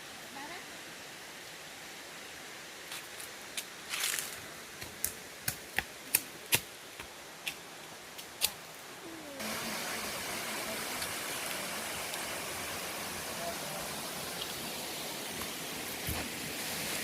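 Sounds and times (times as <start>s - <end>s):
faint hiss: 0.0s - 17.0s
rush of falling water: 0.0s - 17.0s.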